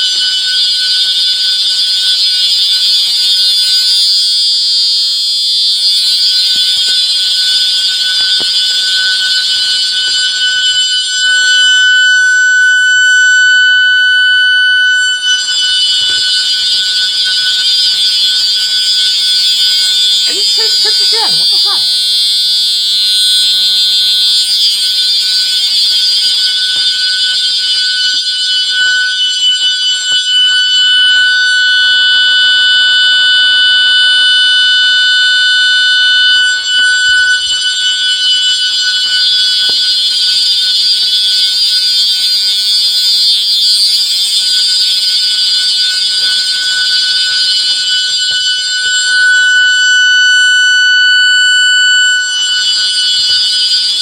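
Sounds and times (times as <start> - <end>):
steady-tone security sirens: 0.0 - 54.0.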